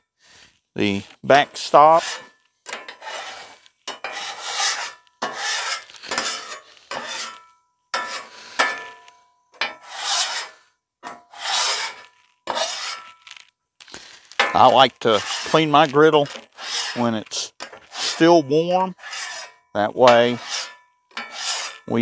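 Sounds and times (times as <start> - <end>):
metal scraper scraping griddle: 1.0 - 22.0.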